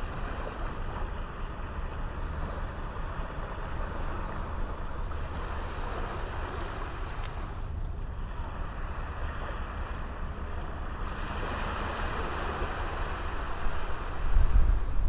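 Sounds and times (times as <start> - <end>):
sea waves washing onto beach: 2.9 - 15.0.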